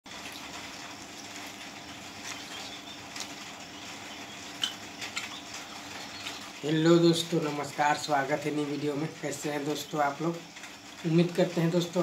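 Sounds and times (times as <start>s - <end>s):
background hum: 0.1s - 12.0s.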